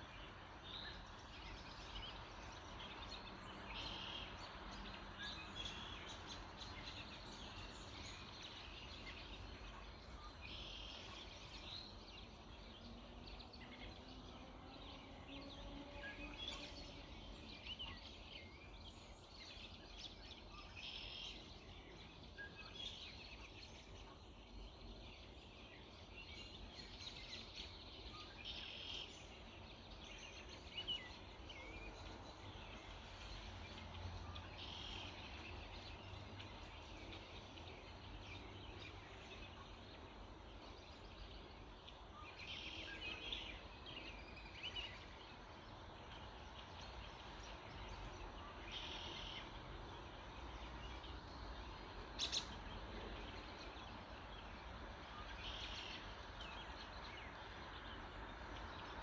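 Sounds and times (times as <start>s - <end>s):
wild birds singing and calling: 0.0s - 59.0s.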